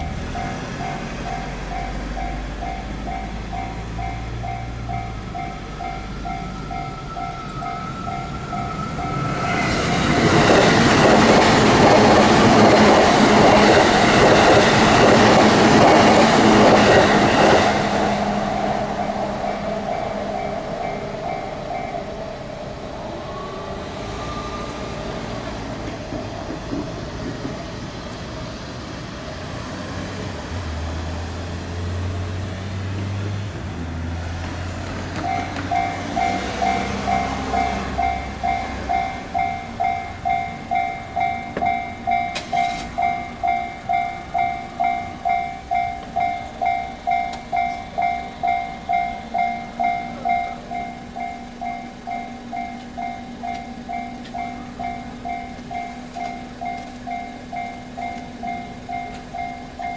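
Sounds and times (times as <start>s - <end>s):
railroad crossing bell dinging: 0.0s - 27.8s, 30.5s - 59.9s
road traffic engine hum: 0.0s - 59.9s.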